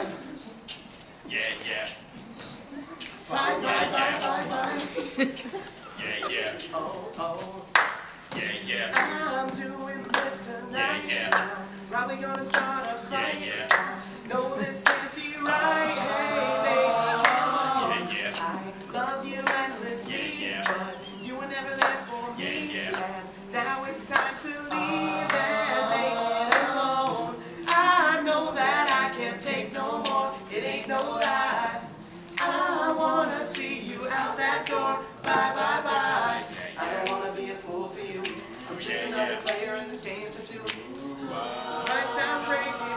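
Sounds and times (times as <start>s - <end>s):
male voices singing a cappella: 3.2s - 42.9s.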